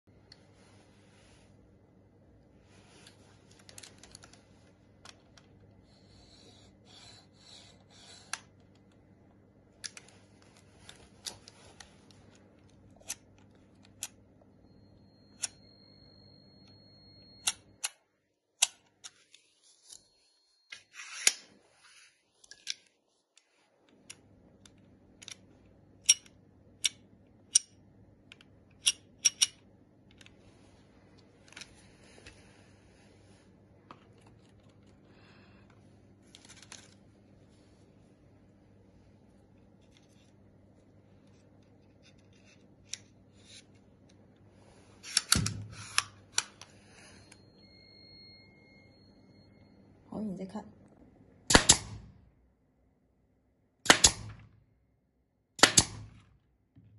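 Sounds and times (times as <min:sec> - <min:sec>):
faint steady hum: 0:00.1 - 0:56.9.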